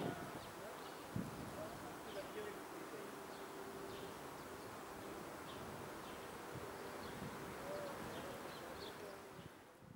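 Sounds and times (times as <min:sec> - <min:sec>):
background hiss: 0:00.0 - 0:09.9.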